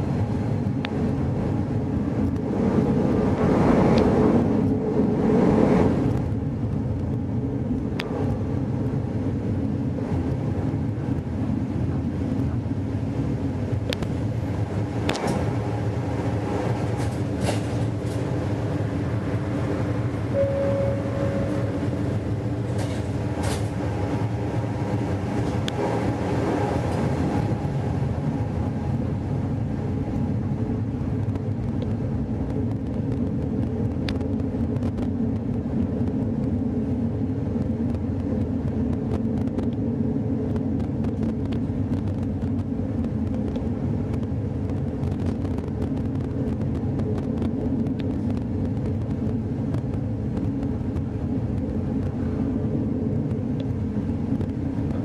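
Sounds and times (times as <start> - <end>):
tram humming with held tones: 0.0 - 55.0
tram rumbling along rails: 0.0 - 55.0.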